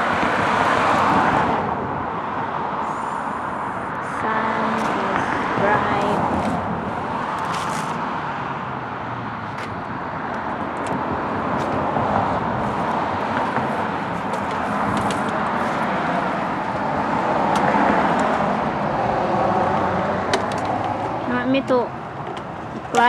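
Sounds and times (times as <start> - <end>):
road traffic rushing: 0.0 - 23.0.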